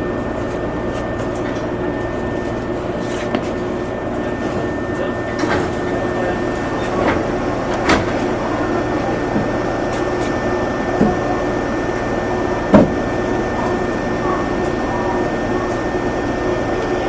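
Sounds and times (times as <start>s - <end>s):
steady hum tones: 0.0s - 17.0s.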